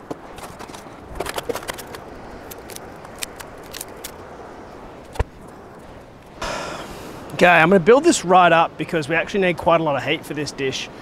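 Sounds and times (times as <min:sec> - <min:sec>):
steady background hiss: 0:01.9 - 0:11.0.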